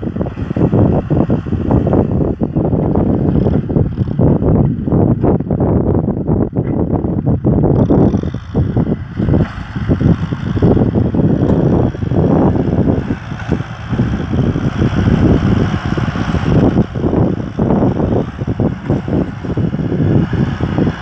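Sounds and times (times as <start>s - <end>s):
tractor diesel engine under load: 0.0s - 21.0s
wind buffeting microphone: 0.0s - 21.0s.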